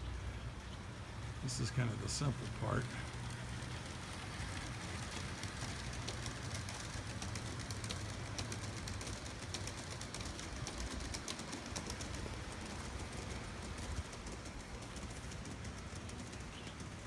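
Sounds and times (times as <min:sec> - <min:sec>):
wheels clicking on rails: 0:00.0 - 0:17.0.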